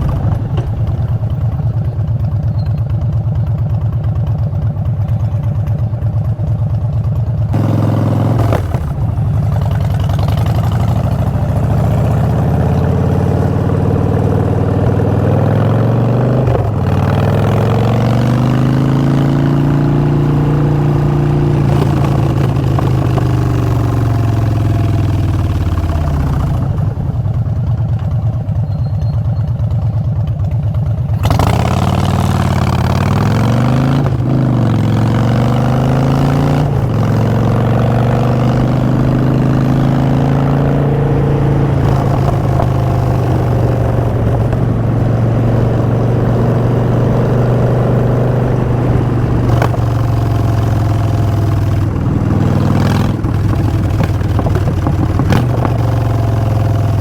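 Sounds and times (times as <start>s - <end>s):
motorcycle engine riding: 0.0s - 57.0s.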